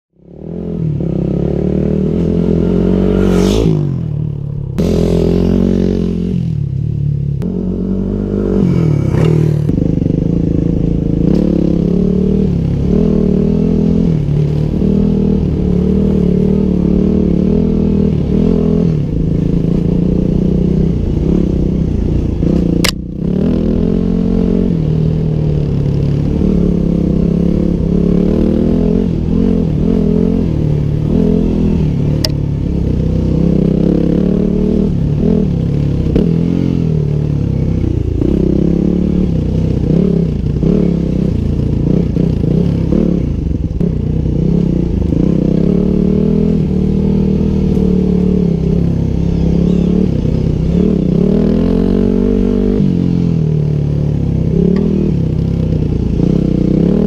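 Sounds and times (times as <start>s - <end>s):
motorcycle engine revving: 0.1s - 57.0s.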